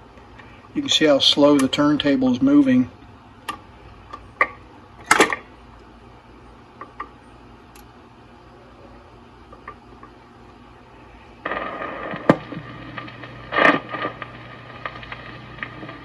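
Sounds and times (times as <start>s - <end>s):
record crackle: 0.0s - 8.1s, 9.3s - 16.0s
record player hum and surface noise: 0.0s - 16.0s.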